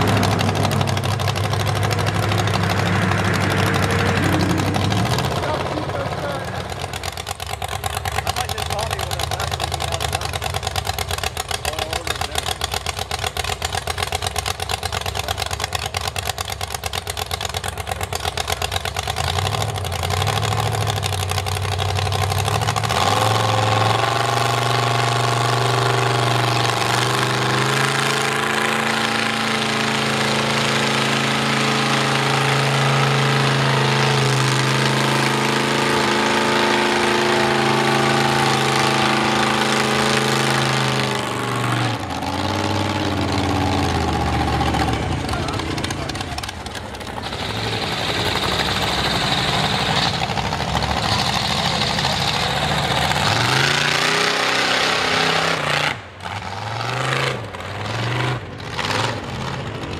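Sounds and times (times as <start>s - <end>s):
heavy engine idling and revving: 0.0s - 59.9s.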